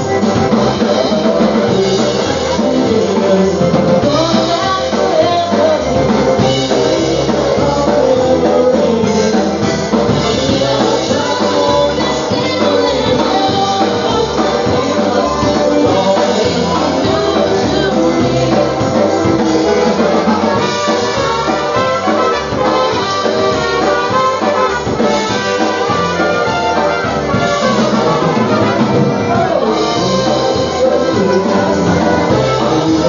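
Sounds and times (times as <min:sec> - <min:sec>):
polka band playing: 0:00.0 - 0:33.0.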